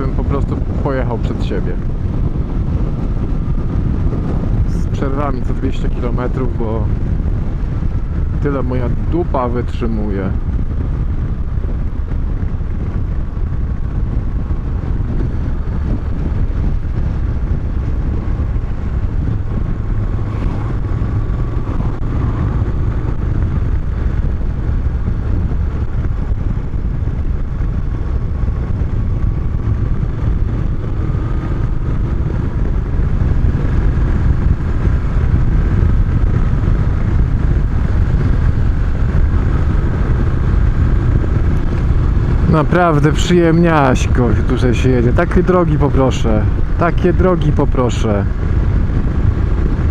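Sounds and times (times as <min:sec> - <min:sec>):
motorcycle engine running: 0:00.0 - 0:45.4, 0:46.3 - 0:47.4, 0:48.0 - 0:49.9
wind on helmet microphone: 0:00.0 - 0:49.9.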